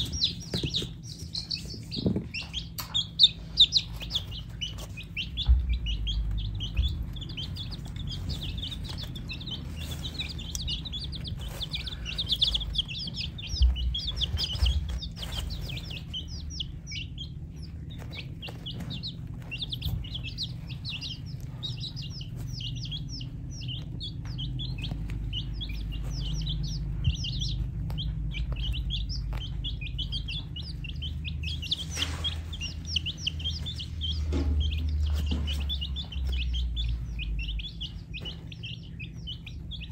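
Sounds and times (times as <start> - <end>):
baby chicks peeping: 0.0 - 39.9
chicks pecking plastic plate: 0.0 - 39.9
low rumble: 0.0 - 39.9.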